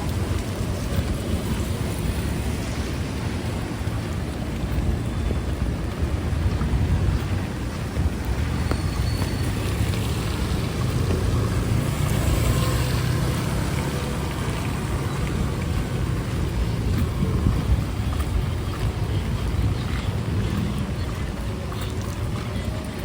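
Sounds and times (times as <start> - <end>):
heavy rain falling: 0.0 - 23.0
wind rumble on microphone: 0.0 - 23.0.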